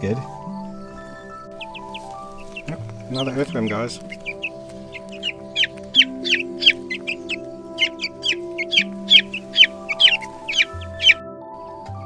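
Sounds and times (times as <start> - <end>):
chicks peeping: 0.0 - 11.2
background music: 0.0 - 12.0.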